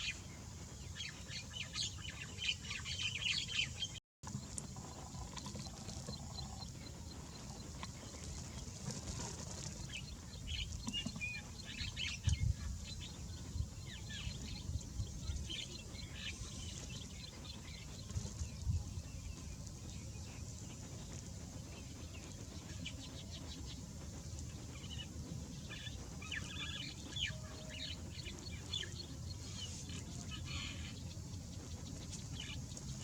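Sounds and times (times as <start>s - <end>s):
birds chirping: 0.0s - 33.0s
steady low rumble: 0.0s - 33.0s.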